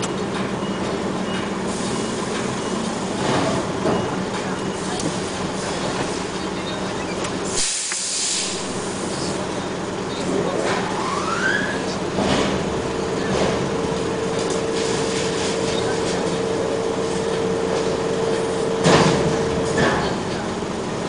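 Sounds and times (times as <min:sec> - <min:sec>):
heavy machinery humming: 0:00.0 - 0:21.0.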